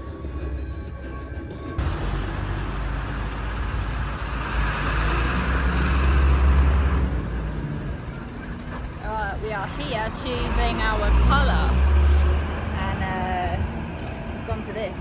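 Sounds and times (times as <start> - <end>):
low engine hum: 1.8 - 15.0
rushing road noise: 1.8 - 15.0.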